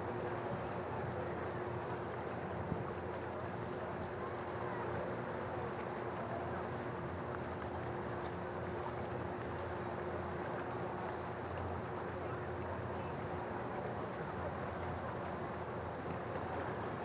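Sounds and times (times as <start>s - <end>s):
constant low drone: 0.0s - 17.0s
sea wash: 0.0s - 17.0s.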